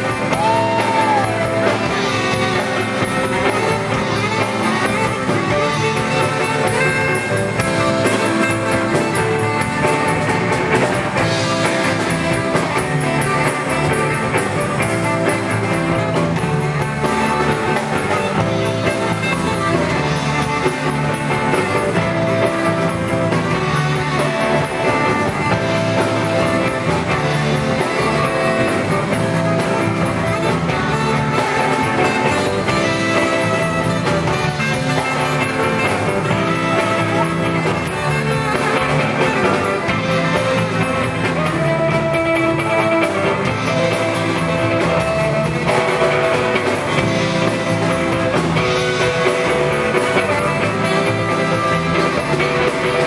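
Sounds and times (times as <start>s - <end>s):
drum kit: 0.0s - 53.0s
guitar: 0.0s - 53.0s
tenor saxophone playing: 0.0s - 53.0s.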